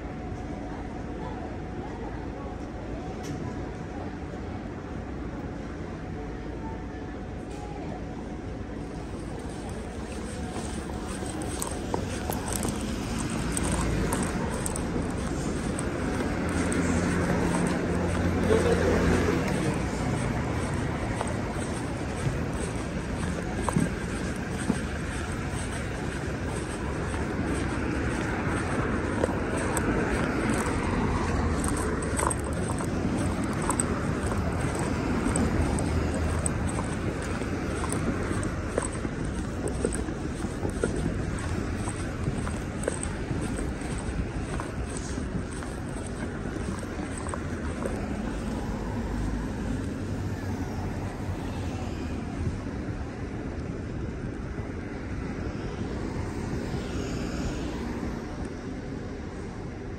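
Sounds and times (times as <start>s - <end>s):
low traffic rumble: 0.0s - 59.9s.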